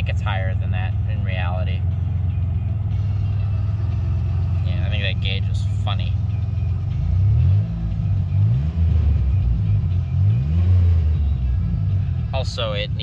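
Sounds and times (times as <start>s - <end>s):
loud engine idling and revving: 0.0s - 13.0s.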